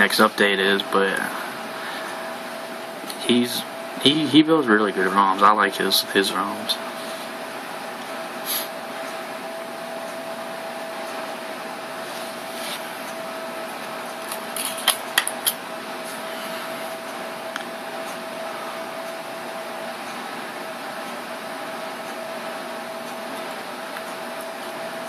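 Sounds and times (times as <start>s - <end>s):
fan-like hum: 0.0s - 25.0s.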